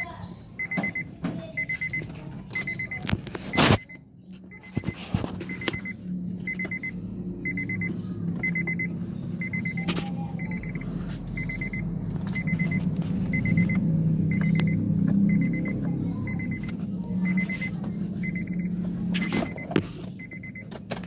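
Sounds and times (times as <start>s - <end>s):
car warning chime beeping: 0.0s - 21.0s
low steady rumble: 1.6s - 20.7s.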